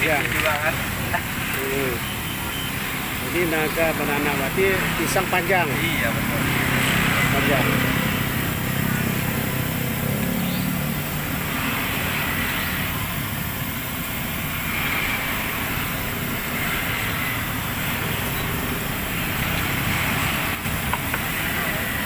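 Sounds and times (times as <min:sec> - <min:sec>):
fritter sizzling in hot oil: 0:00.0 - 0:22.0.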